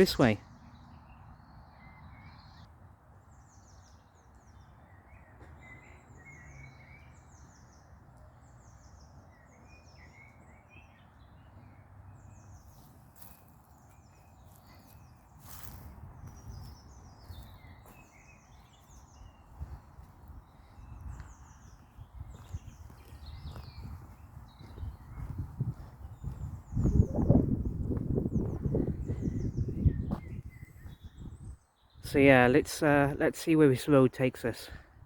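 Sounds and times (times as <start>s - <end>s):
birds singing: 0.0s - 35.0s.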